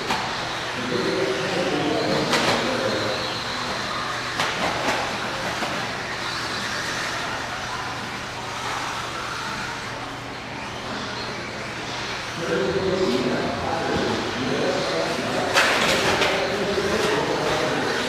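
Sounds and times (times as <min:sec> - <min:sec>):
rc car motor whine: 0:00.0 - 0:18.0.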